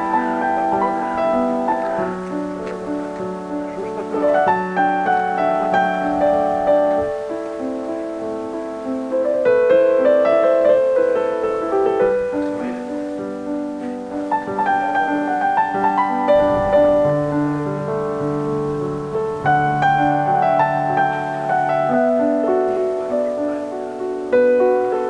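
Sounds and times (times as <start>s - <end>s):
gentle piano music: 0.0s - 25.0s.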